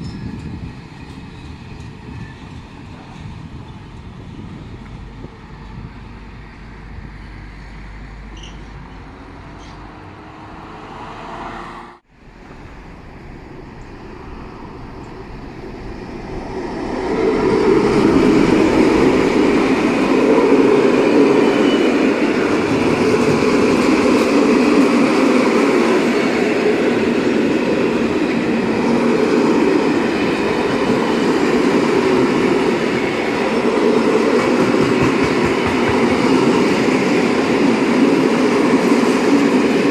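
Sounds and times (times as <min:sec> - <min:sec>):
train wheels rattling on rails: 0:00.0 - 0:06.7, 0:12.4 - 0:39.9
distant freight train rumble: 0:00.0 - 0:10.9, 0:12.0 - 0:39.9.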